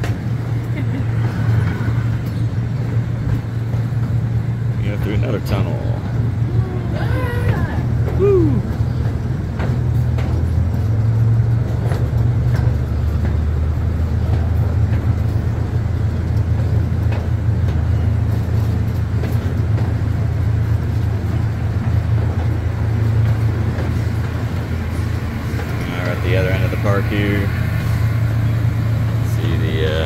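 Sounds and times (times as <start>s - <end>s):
ride train rumbling: 0.0s - 30.0s.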